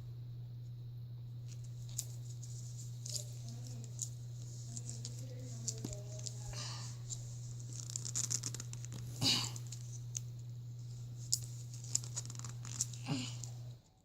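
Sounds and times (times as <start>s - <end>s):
steady low hum: 0.0s - 14.0s
doll handling scratching and rustling: 1.5s - 13.8s.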